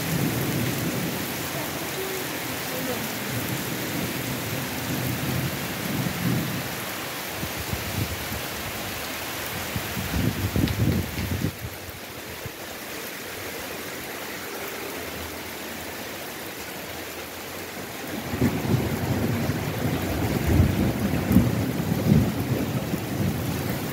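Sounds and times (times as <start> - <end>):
heavy rain: 0.0 - 23.9.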